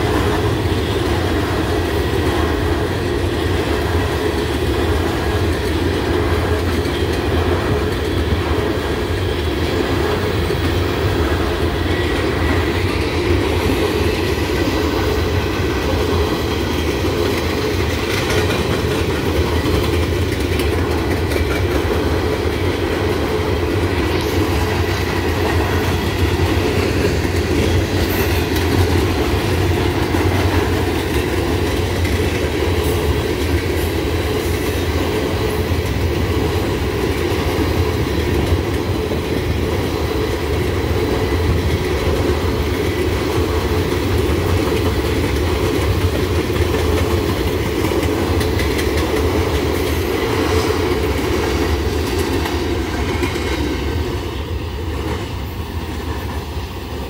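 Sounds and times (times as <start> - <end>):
steel train wheels rolling on rails: 0.0 - 57.0.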